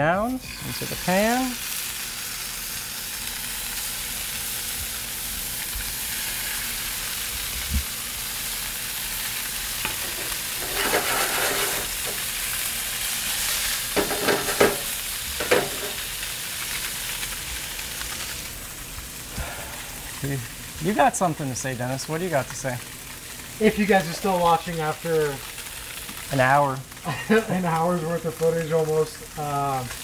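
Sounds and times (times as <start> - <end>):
fish sizzling in hot oil: 0.0 - 30.0.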